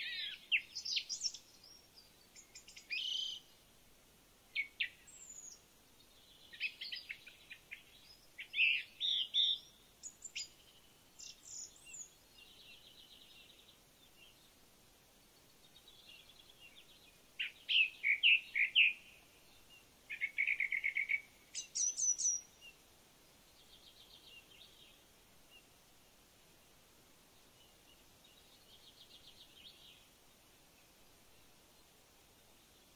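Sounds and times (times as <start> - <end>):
songbirds chirping and trilling: 0.0 - 32.9.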